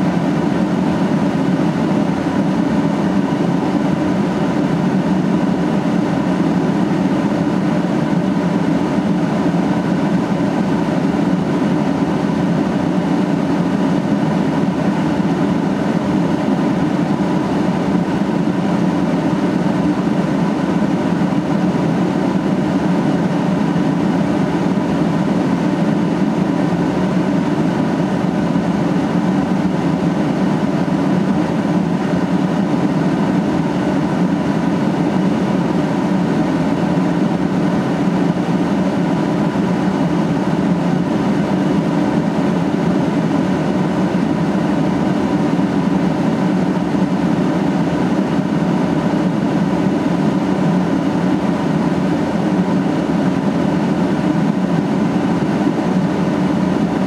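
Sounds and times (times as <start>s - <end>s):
loud mechanical hum: 0.0s - 57.0s.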